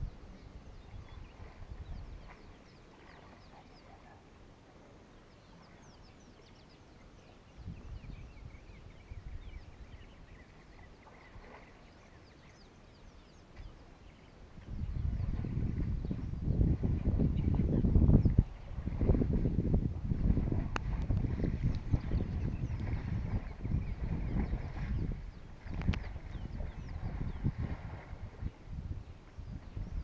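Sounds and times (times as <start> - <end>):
birds chirping: 0.0 - 19.7, 20.6 - 30.0.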